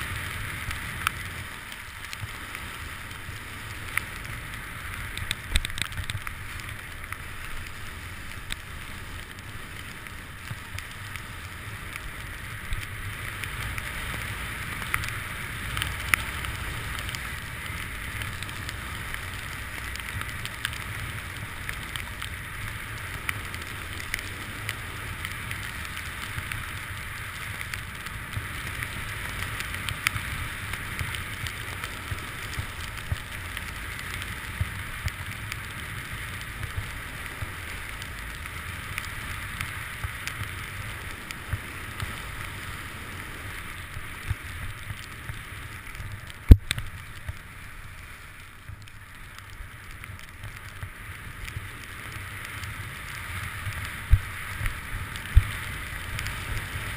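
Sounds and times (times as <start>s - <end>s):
skis scraping on snow: 0.0s - 56.9s
small ticks: 0.0s - 56.9s.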